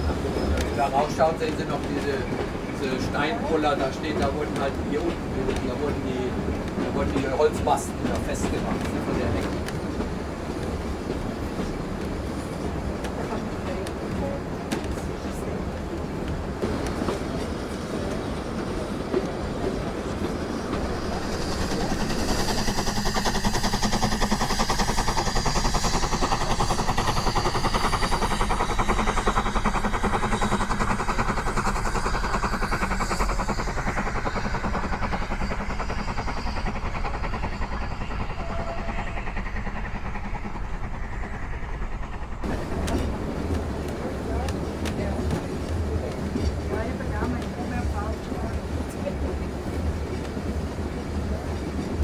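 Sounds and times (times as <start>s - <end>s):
steady train rumble: 0.0s - 52.0s
train wheels clicking over rails: 0.0s - 52.0s.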